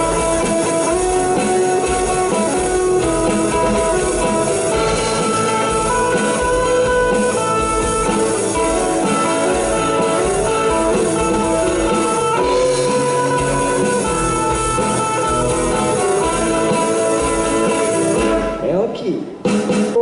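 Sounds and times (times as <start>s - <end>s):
distorted electric guitars: 0.0s - 20.0s
drum kit: 0.0s - 20.0s.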